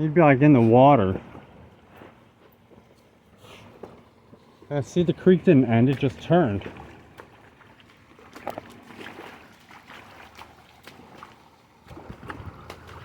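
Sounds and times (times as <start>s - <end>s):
faint flowing water: 0.0s - 13.0s
footsteps splashing in a creek: 0.0s - 13.0s.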